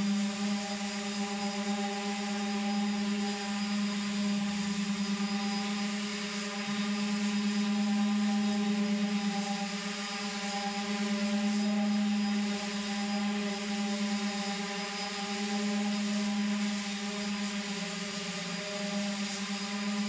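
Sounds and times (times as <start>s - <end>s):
electric sanders motor hum: 0.0s - 20.0s.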